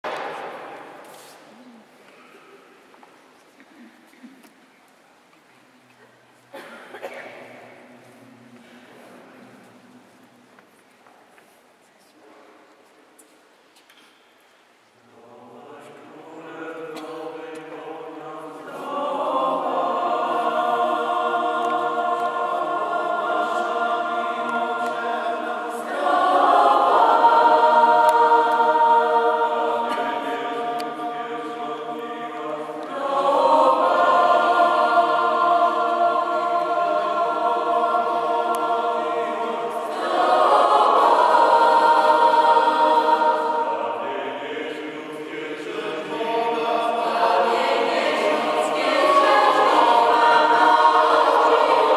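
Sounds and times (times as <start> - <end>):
mixed choir singing a cappella: 0.0 - 2.5, 6.5 - 10.2, 15.0 - 51.9.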